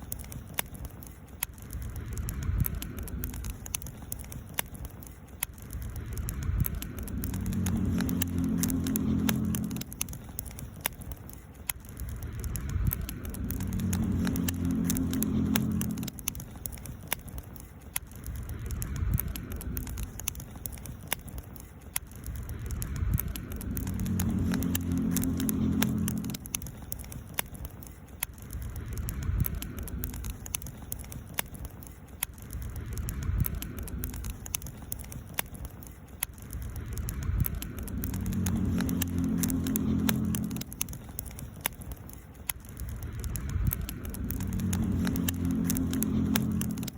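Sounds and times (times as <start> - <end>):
campfire crackling and popping: 0.0 - 46.9
low rumble: 0.0 - 46.9.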